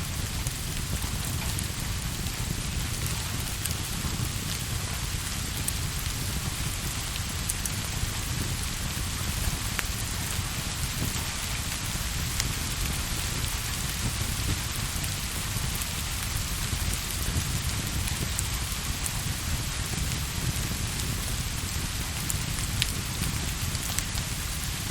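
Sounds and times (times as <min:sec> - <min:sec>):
rain hissing on a surface: 0:00.0 - 0:24.9.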